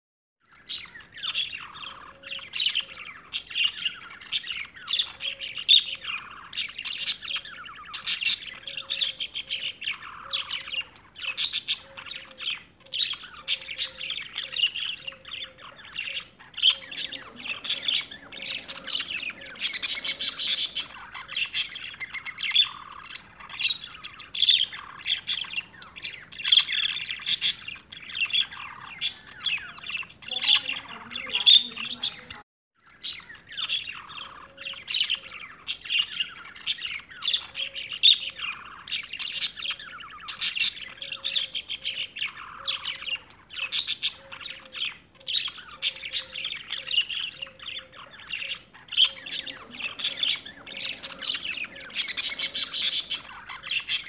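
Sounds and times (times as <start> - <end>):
birds chirping: 0.4 - 54.0.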